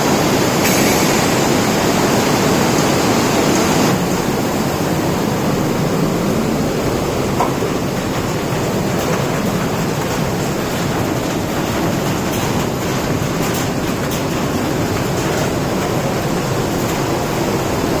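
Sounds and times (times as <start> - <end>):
rainwater rushing: 0.0 - 18.0.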